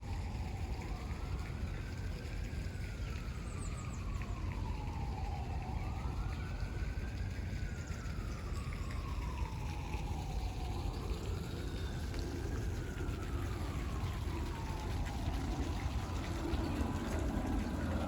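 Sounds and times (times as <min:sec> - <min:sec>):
siren wailing: 0:00.1 - 0:18.0.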